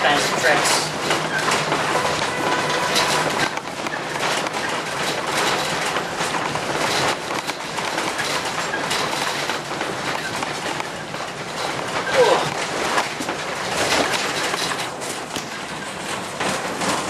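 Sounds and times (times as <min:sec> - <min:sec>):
rattling and clattering: 0:00.0 - 0:17.0
road noise: 0:00.0 - 0:17.0.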